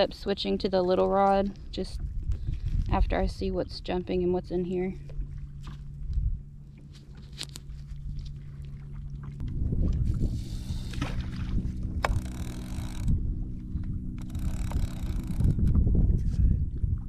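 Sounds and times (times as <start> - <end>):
steady low hum: 0.0 - 17.0
water splashing against hull: 0.0 - 17.0
wind rumbling on microphone: 0.0 - 17.0.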